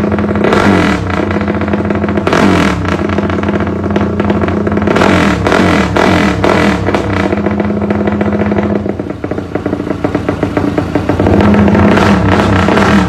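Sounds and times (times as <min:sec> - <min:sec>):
motorcycle engine revving and idling: 0:00.0 - 0:13.0.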